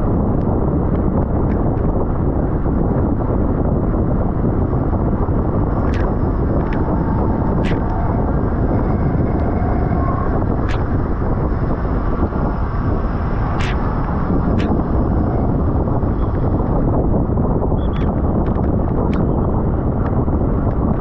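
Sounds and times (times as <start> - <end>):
wind rushing on microphone: 0.0 - 21.0.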